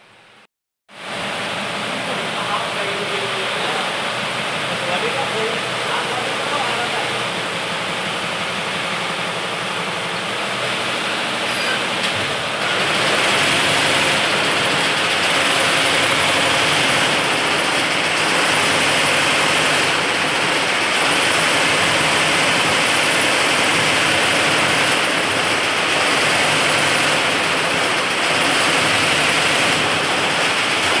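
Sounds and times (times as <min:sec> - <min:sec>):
embroidery machine rattling: 0:04.6 - 0:31.0.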